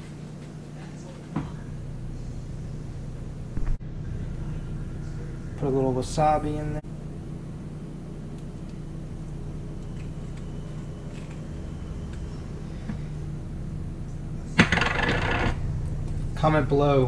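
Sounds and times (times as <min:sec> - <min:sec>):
kitchen hum: 0:00.0 - 0:17.0.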